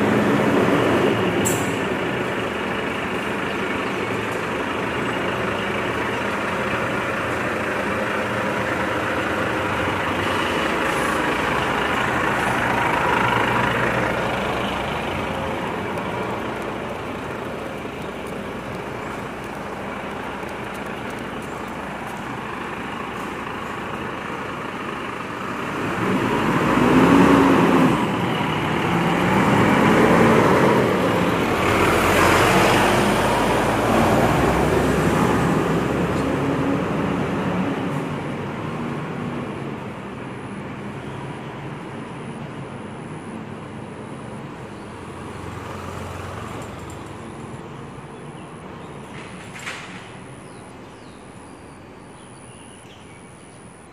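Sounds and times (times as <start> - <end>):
truck diesel engine passing: 0.0 - 52.4.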